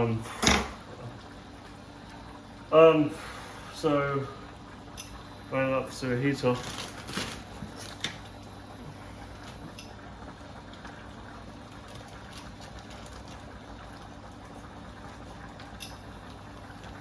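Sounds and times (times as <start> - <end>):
pot bubbling hiss: 0.0 - 17.0.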